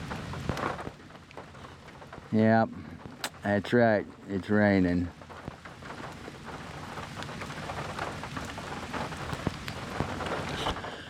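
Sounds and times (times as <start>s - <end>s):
raindrops ticking on surfaces: 0.0s - 11.0s
steady rain falling: 0.0s - 11.0s.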